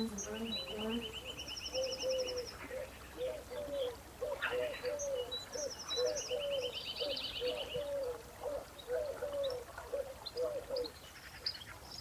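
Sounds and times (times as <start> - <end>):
low gliding bird calls: 0.0 - 11.8.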